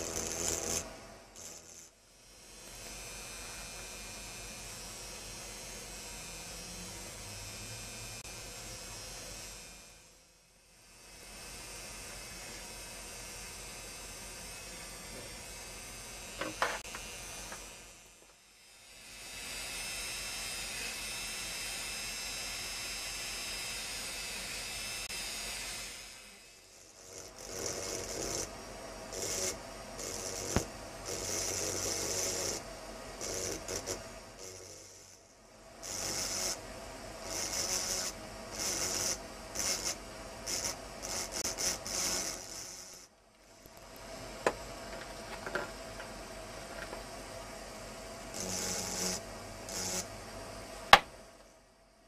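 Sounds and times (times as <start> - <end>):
engraving drill grinding glass: 0.0 - 10.2, 10.8 - 43.7, 48.3 - 50.1
small motor running: 0.0 - 10.2, 10.8 - 43.7, 48.3 - 50.1.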